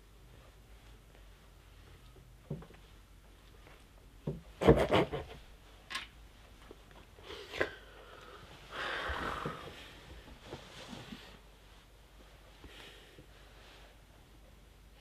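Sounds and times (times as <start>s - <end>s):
soft hiss: 0.0s - 4.3s, 5.4s - 15.0s.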